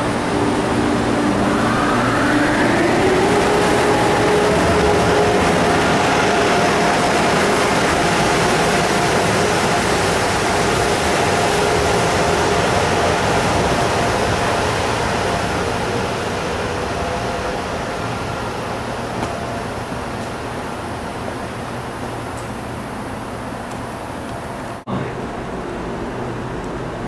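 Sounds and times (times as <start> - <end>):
faint train whine: 0.0 - 27.0
train wheels rumbling: 0.0 - 27.0.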